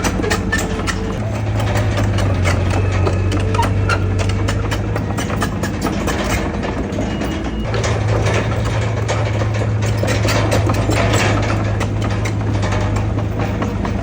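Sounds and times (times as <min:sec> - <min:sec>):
diesel engine running: 0:00.0 - 0:14.0
metallic clanks and rattles: 0:00.0 - 0:14.0.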